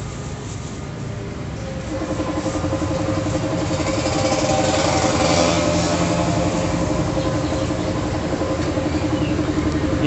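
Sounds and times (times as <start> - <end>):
small engine idling: 1.6 - 10.0.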